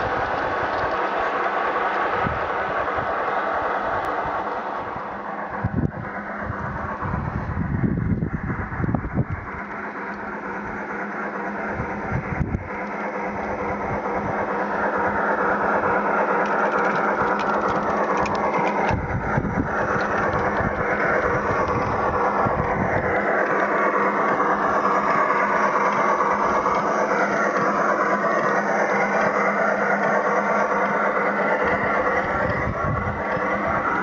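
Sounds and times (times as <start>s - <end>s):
model train wheels on track: 0.0s - 34.0s
recorded steam engine sound: 0.0s - 34.0s.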